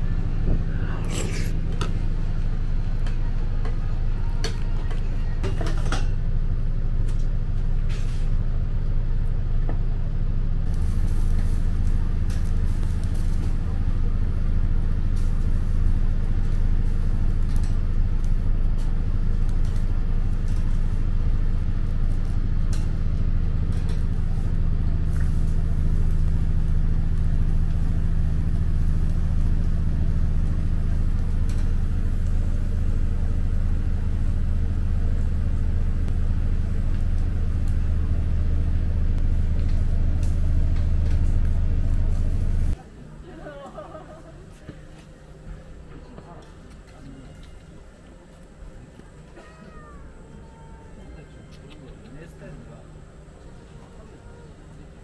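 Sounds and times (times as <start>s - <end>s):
faint voices: 0.0s - 7.0s, 12.6s - 55.0s
low mechanical hum: 0.0s - 55.0s.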